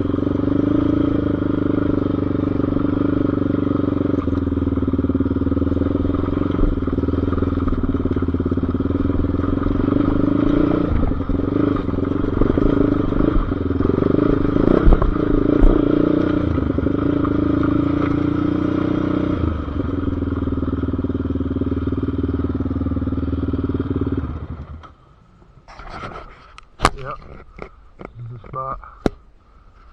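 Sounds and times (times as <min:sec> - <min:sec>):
single-cylinder engine running: 0:00.0 - 0:24.9
engine knocks and clatter: 0:00.0 - 0:25.0.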